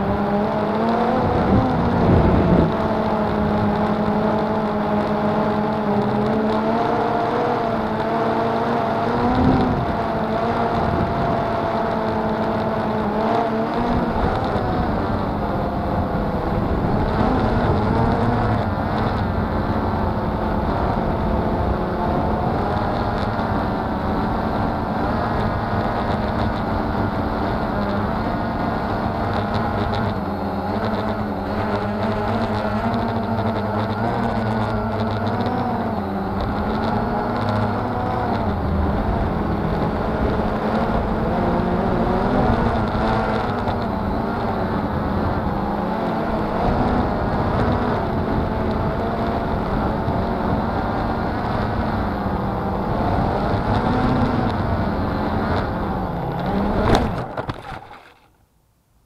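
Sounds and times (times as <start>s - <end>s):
quadcopter propellers whirring: 0.0s - 58.3s.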